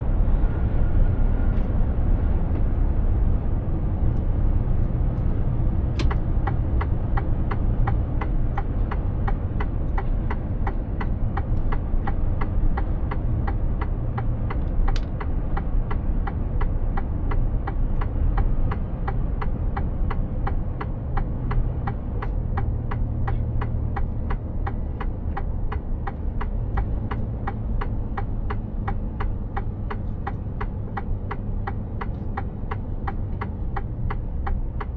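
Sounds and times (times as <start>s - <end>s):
diesel truck engine: 0.0s - 34.9s
road rumble: 0.0s - 34.9s
turn signal ticking: 2.5s - 34.9s.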